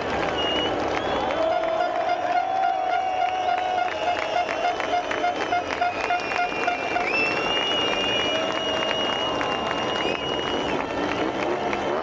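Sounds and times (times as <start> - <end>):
crowd noise: 0.0 - 12.0
rhythmic clapping: 0.0 - 12.0
short repeated toots: 0.4 - 10.7.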